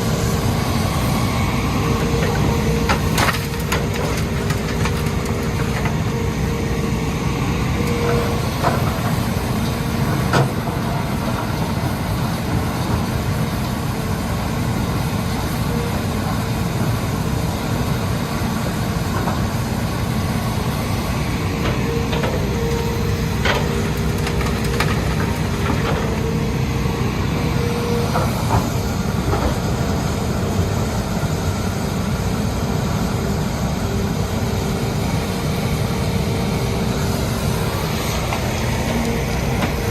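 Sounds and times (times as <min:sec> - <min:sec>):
excavator diesel engine whining: 0:00.0 - 0:39.9.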